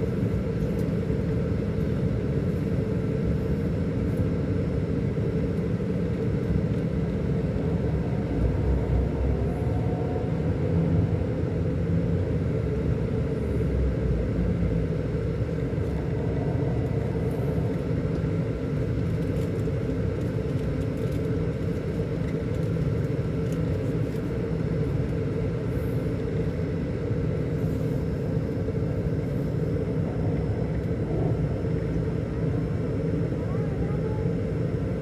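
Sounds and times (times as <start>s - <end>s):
diesel bus engine running: 0.0s - 35.0s.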